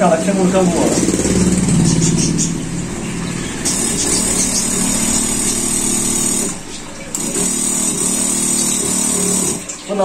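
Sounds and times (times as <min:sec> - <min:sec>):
air compressor humming: 0:00.0 - 0:10.0.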